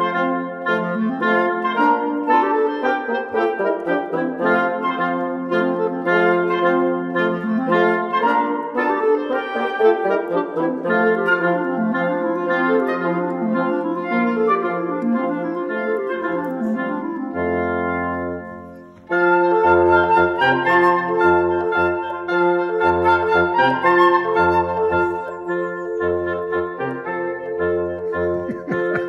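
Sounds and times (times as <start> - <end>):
instrumental background music: 0.0 - 29.0.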